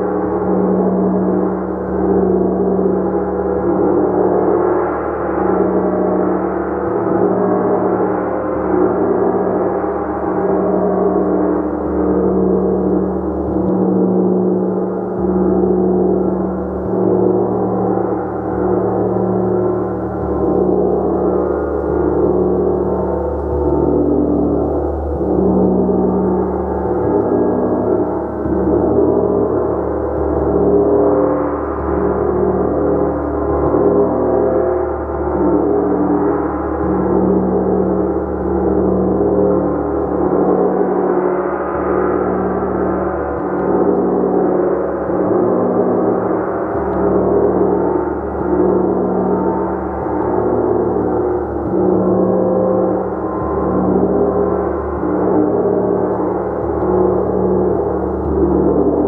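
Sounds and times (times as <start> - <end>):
large gong wash: 0.0 - 59.0.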